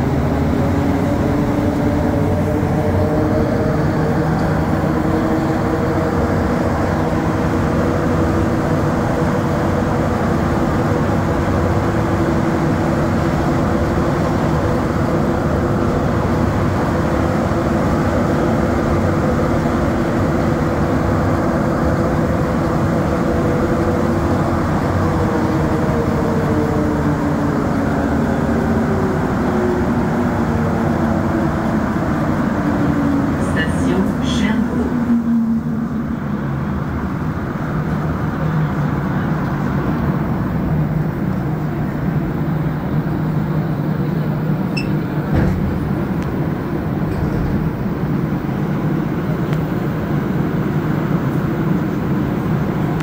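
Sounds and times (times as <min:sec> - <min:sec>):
rumble of train tyres on track: 0:00.0 - 0:53.0.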